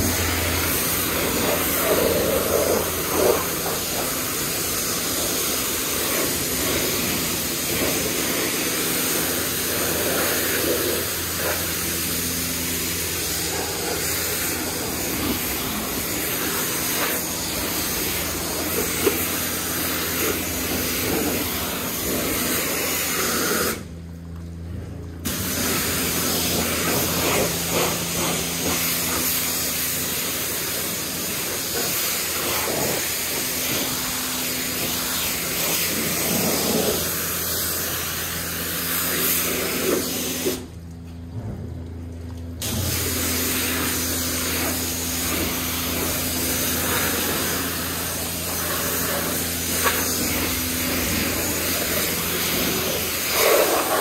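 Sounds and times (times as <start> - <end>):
high-pressure water spraying: 0.0 - 23.9, 25.2 - 40.9, 42.6 - 54.0.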